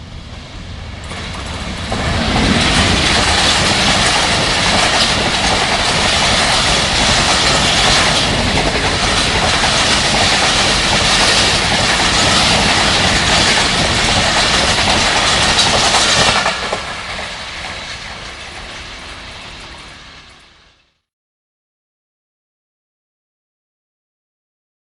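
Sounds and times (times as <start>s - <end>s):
train wheels clattering over rails: 0.3s - 20.8s.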